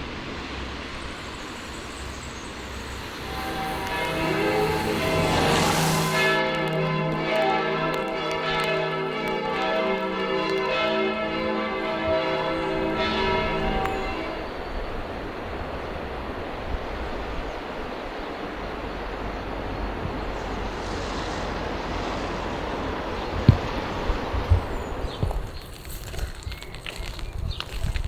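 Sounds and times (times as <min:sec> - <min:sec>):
steady rushing noise: 0:00.0 - 0:25.5
church bells ringing: 0:00.2 - 0:25.4.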